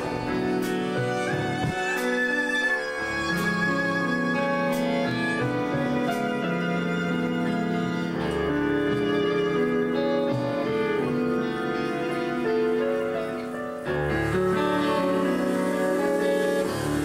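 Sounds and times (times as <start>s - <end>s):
acoustic guitar: 0.0s - 17.0s
bowed strings: 0.0s - 17.0s
deep low string part: 0.0s - 17.0s.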